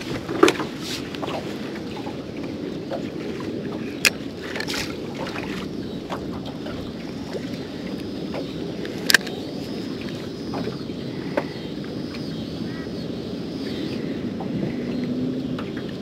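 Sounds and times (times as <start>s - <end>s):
choppy water around a boat: 0.0s - 16.0s
wind: 0.0s - 16.0s.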